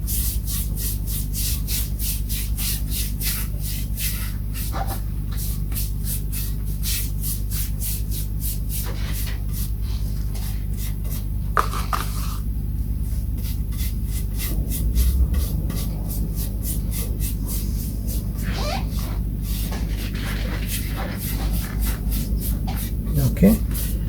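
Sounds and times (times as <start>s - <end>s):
rubbing strokes on wood: 0.1s - 11.3s, 13.1s - 24.0s.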